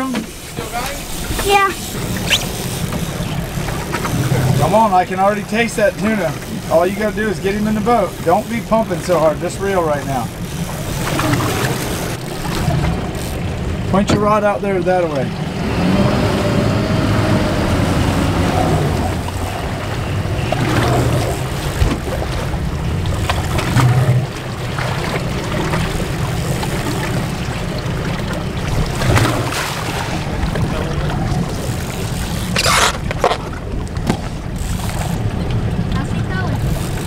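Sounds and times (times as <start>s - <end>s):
boat engine idling: 0.0s - 37.0s
water along hull: 0.0s - 37.0s
wind: 0.0s - 37.0s.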